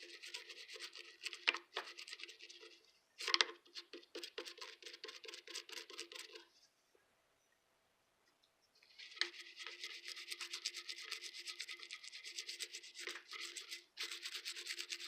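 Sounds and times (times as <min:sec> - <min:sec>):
scratchy scrubbing strokes: 0:00.0 - 0:06.7, 0:08.8 - 0:15.0.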